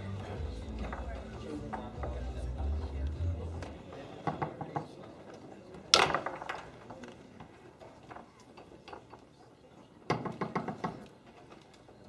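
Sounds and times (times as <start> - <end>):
foosball ball and rods clicking: 0.2 - 9.4, 10.1 - 12.0.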